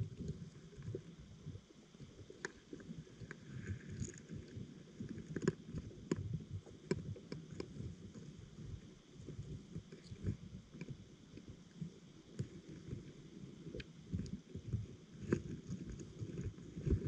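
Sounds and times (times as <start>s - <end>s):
underwater rumble of moving water: 0.0s - 17.0s.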